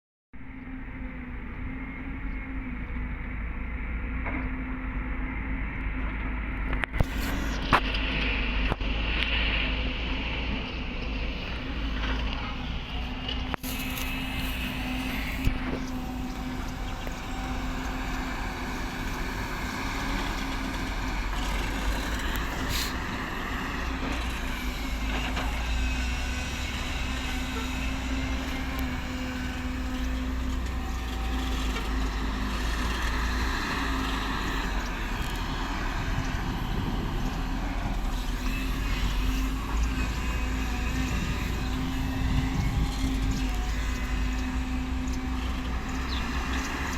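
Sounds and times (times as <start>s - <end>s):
excavator diesel engine: 0.5s - 46.9s
excavator hydraulics whining: 7.0s - 46.9s.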